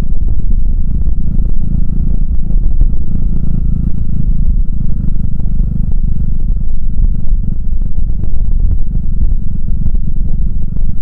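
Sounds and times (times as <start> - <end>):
scooter engine rumbling: 0.0 - 11.0.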